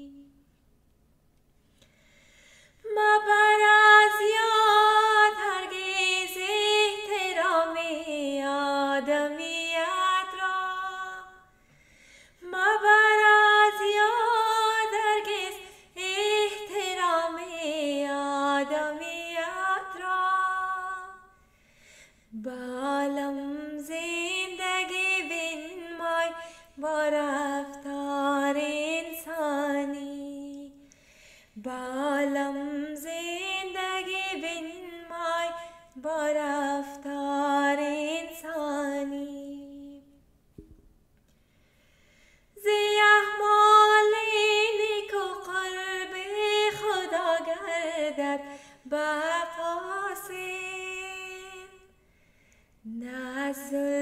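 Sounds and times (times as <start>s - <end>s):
woman singing unaccompanied: 0.0s - 0.4s, 2.8s - 11.5s, 12.4s - 21.3s, 22.4s - 30.8s, 31.6s - 40.2s, 42.6s - 51.9s, 52.8s - 54.0s.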